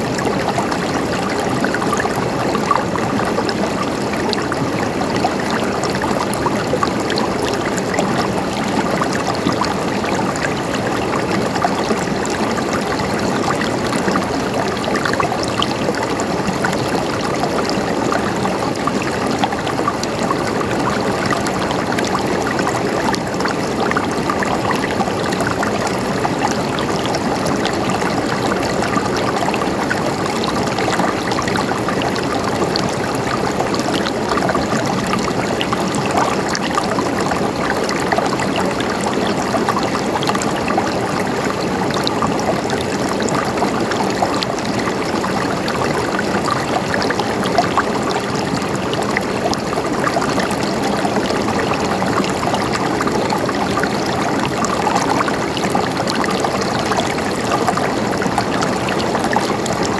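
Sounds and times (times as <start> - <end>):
stream water gurgling over rocks: 0.0 - 59.9.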